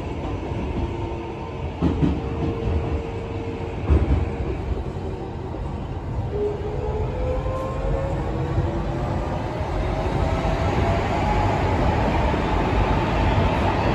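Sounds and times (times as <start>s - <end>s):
subway train low rumble: 0.0s - 13.9s.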